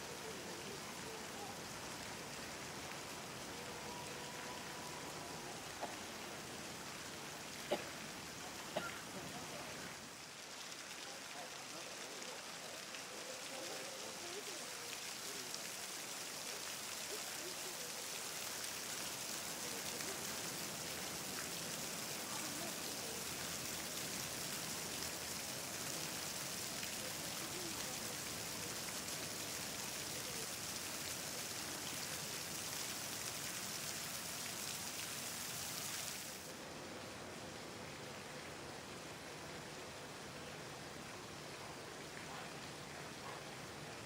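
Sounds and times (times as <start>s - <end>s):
hiss of water: 0.0s - 36.6s.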